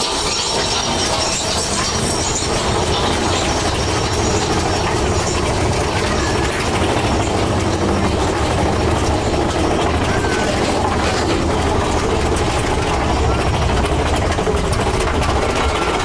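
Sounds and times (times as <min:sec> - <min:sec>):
roller coaster rumbling on rails: 0:00.0 - 0:16.0.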